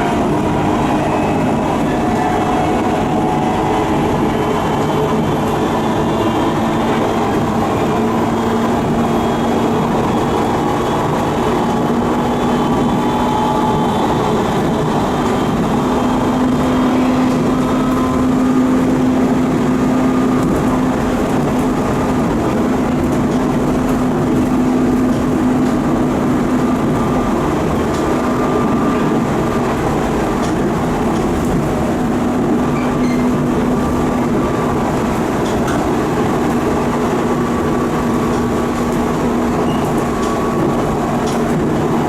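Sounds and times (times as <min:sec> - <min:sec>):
train bogie drone: 0:00.0 - 0:42.0
train running noise: 0:00.0 - 0:42.0.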